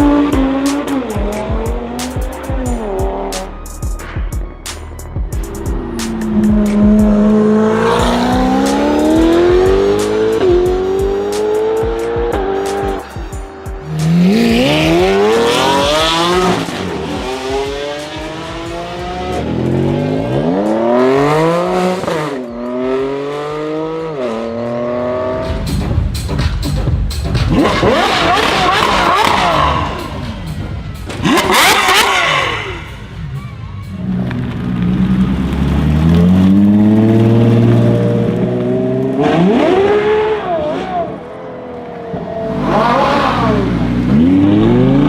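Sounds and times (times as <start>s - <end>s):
car engine accelerating: 0.0s - 4.2s, 4.8s - 26.5s, 27.2s - 45.0s.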